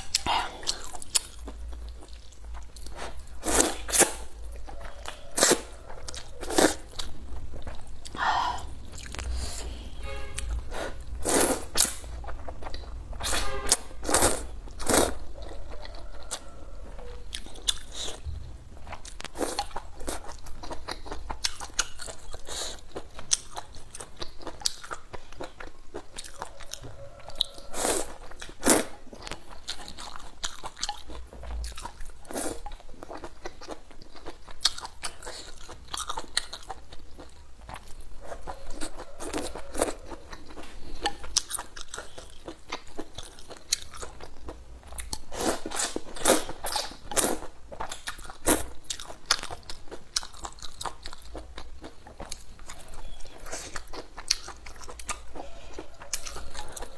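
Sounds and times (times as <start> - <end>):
wet chewing: 0.0 - 9.6, 10.4 - 56.9.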